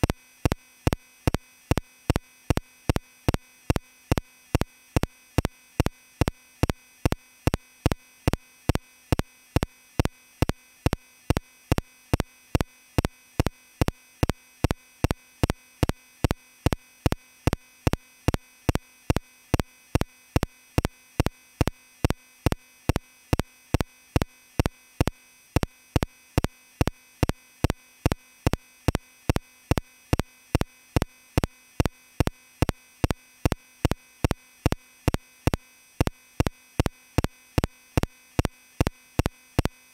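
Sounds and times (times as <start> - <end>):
sharp electronic clicks: 0.0 - 39.8
faint steady tone: 0.0 - 39.9.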